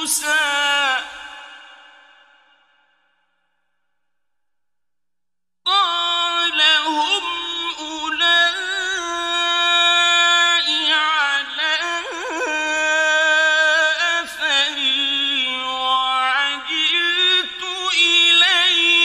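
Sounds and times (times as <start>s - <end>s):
man chanting melodically: 0.0s - 2.1s, 5.7s - 19.0s.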